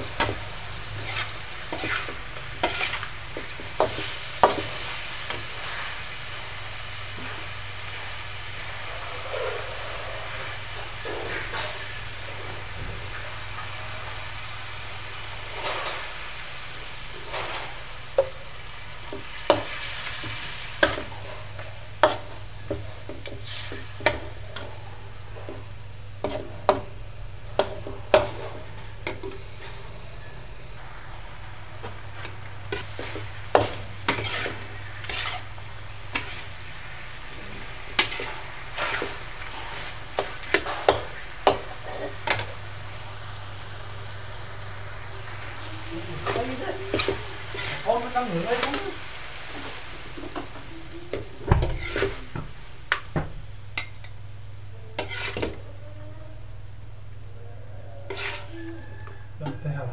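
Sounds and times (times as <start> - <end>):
food sizzling in a wok: 0.0 - 59.9
low steady hum: 0.0 - 59.9.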